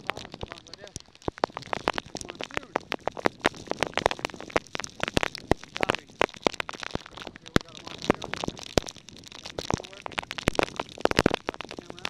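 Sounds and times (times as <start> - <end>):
heavy rain striking microphone: 0.0 - 12.0.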